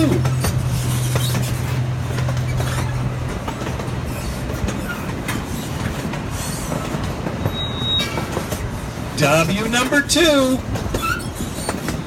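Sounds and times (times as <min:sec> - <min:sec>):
train rolling rumble: 0:00.0 - 0:12.0
wheels clicking over rail joints: 0:00.0 - 0:12.0.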